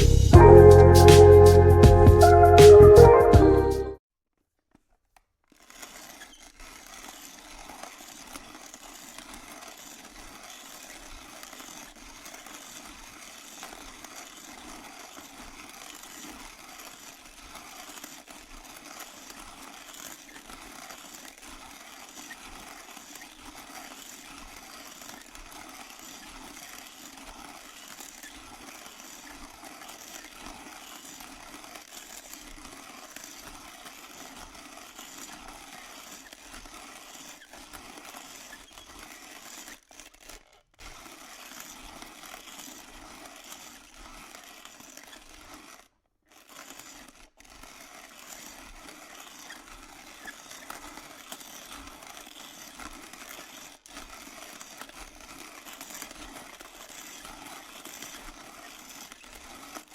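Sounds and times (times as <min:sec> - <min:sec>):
coffee grinder grinding beans: 0:05.4 - 0:59.9.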